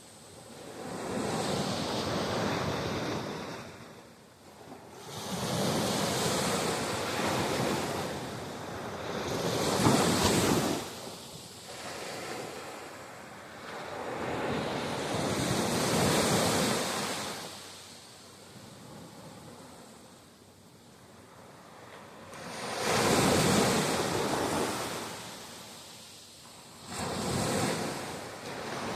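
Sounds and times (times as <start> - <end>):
ocean waves breaking on beach: 0.0 - 28.9.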